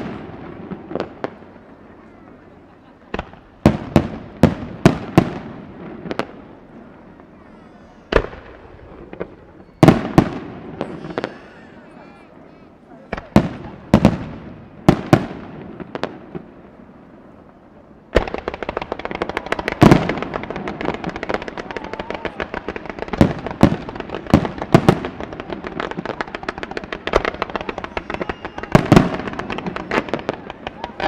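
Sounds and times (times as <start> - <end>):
firework bangs: 0.0 - 31.0
fireworks crackling: 0.0 - 31.0.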